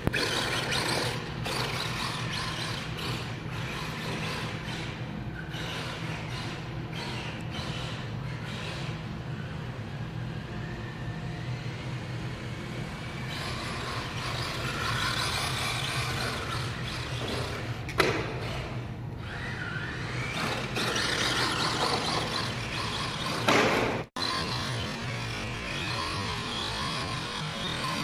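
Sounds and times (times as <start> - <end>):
radio-controlled car running: 0.0 - 28.0.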